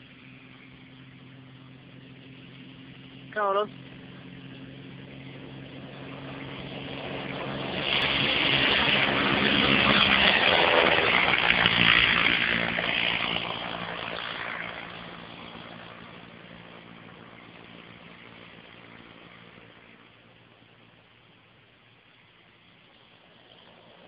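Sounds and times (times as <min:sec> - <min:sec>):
propeller plane engine passing: 0:00.0 - 0:24.0.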